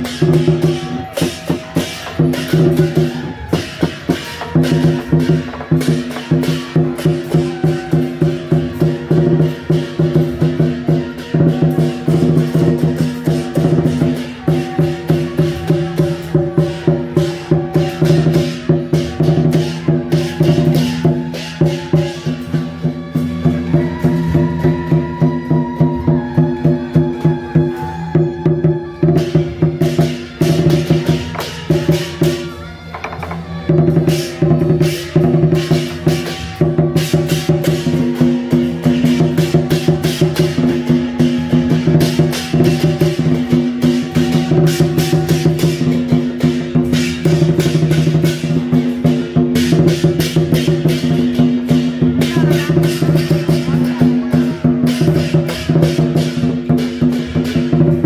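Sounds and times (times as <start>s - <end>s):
drum and cymbal beats: 0.0s - 58.0s.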